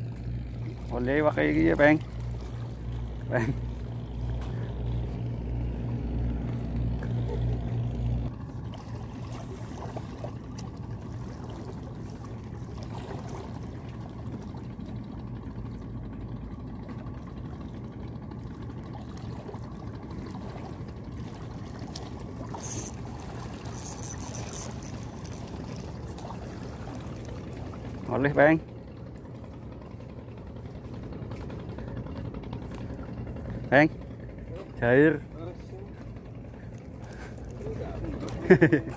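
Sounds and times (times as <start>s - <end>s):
boat engine running: 0.0s - 38.9s
water lapping against concrete: 0.0s - 38.9s.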